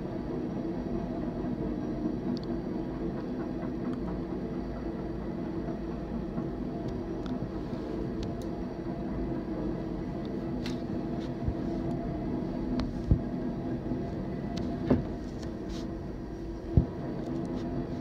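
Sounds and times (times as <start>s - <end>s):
diesel train engine drone: 0.0s - 18.0s.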